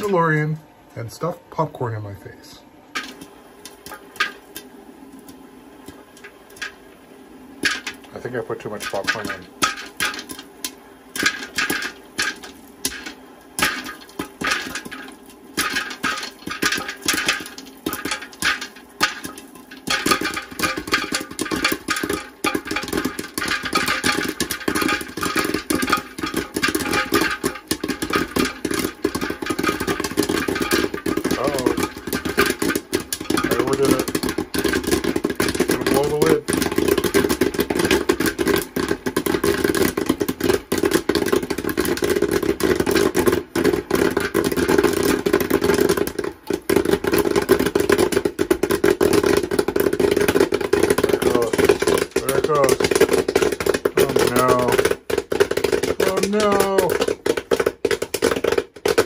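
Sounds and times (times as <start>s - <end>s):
popcorn kernels popping: 0.0s - 1.7s, 2.9s - 59.0s.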